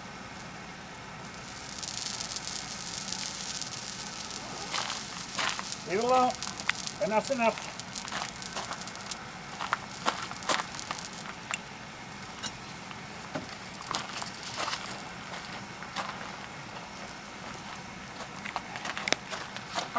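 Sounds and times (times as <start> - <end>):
steady background hiss: 0.0 - 19.9.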